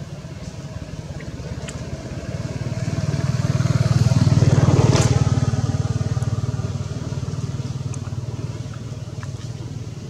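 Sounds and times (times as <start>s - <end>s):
passing vehicle engine: 0.6s - 10.0s.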